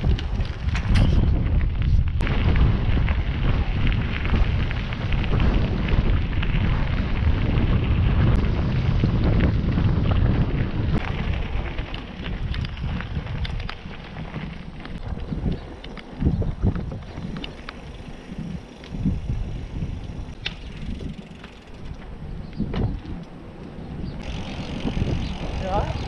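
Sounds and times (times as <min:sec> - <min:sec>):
wind buffeting microphone: 0:00.0 - 0:26.0
tyres crunching over gravel: 0:02.2 - 0:26.0.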